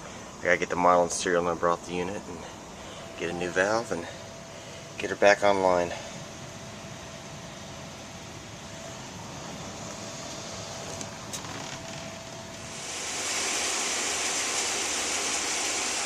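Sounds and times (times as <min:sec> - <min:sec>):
air conditioner hiss: 0:00.0 - 0:16.0
air conditioner humming: 0:00.0 - 0:16.0.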